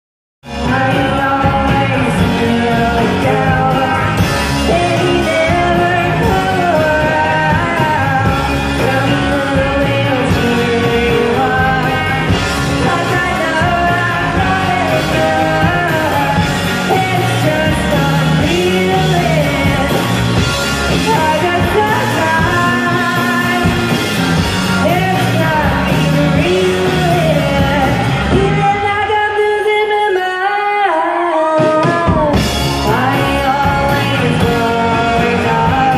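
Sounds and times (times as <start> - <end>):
bass guitar: 0.4 - 30.7, 31.4 - 35.9
drum kit: 0.4 - 35.9
electric guitar: 0.4 - 35.9
person singing: 0.5 - 35.9.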